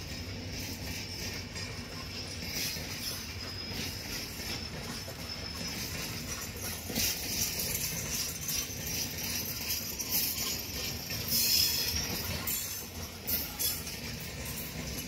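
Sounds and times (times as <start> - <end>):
train wheels clattering on rails: 0.0 - 15.0
metallic jingling rattle: 0.6 - 15.0.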